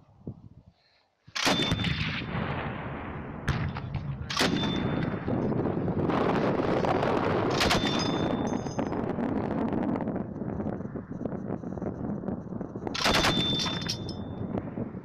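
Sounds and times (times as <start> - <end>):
heavy rolling rumble: 2.0 - 15.0.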